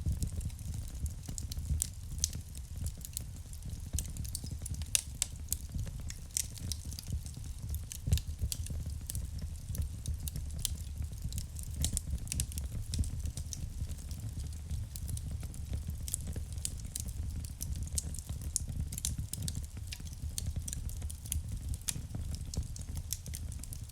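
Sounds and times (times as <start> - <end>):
wood fire crackling: 0.0 - 23.9
burning logs rumble: 0.1 - 23.9.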